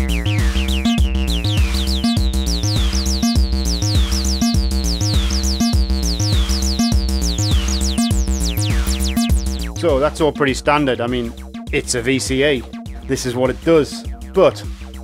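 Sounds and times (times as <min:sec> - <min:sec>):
acid synth bass line: 0:00.0 - 0:15.0.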